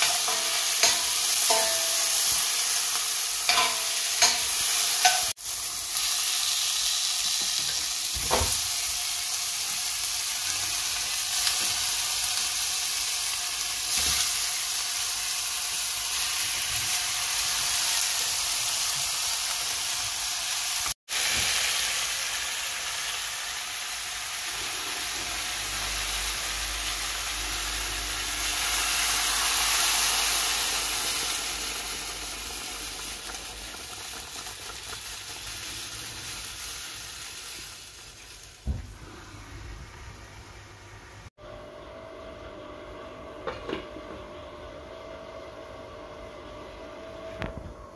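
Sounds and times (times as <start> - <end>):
fish sizzling in hot oil: 0.0 - 38.8.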